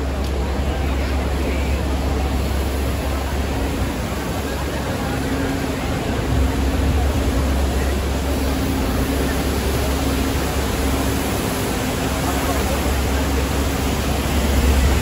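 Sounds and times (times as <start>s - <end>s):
constant low rumble: 0.0s - 15.0s
outdoor street noise: 0.0s - 15.0s.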